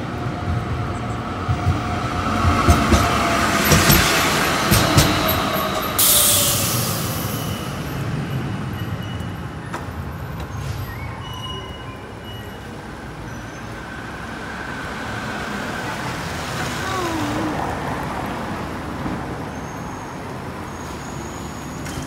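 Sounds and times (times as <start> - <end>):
street noise: 0.0 - 22.0
tram rumbling on rails: 0.0 - 22.0.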